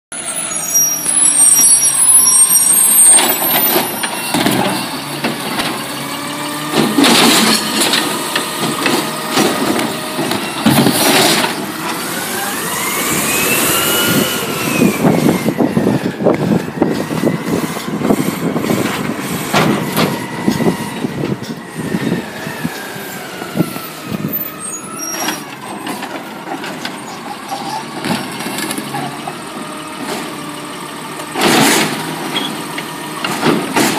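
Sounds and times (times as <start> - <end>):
garbage truck engine running: 0.1 - 33.9.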